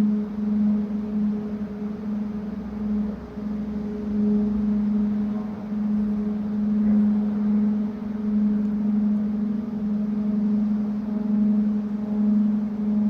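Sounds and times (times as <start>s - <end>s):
funicular car mechanical hum: 0.0s - 13.0s.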